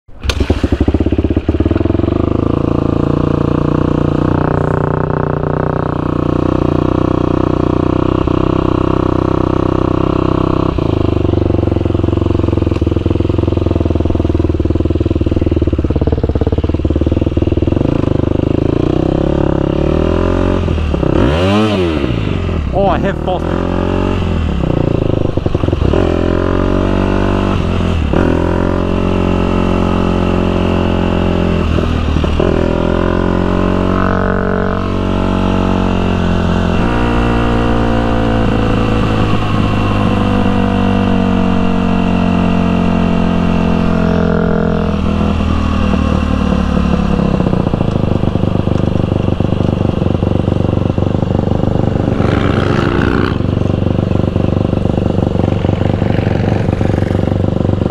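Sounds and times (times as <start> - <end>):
dirt bike engine revving: 0.1 - 57.9.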